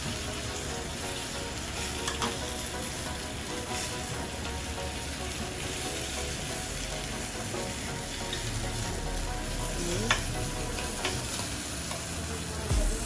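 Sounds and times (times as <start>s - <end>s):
pork sizzling in a pan: 0.0s - 13.0s.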